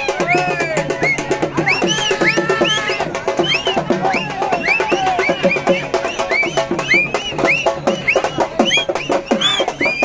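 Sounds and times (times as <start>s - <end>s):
crowd shouting and whistling: 0.0s - 10.0s
fast loud drumming: 0.0s - 10.0s.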